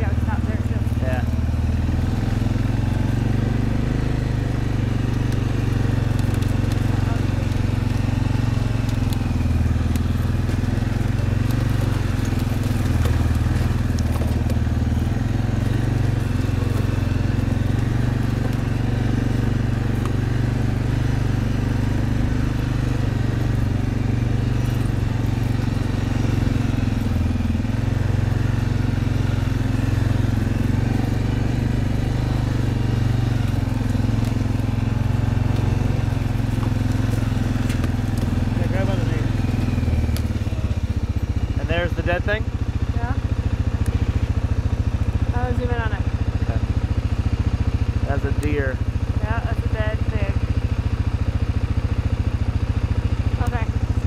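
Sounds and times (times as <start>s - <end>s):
quad bike engine droning: 0.0s - 54.0s.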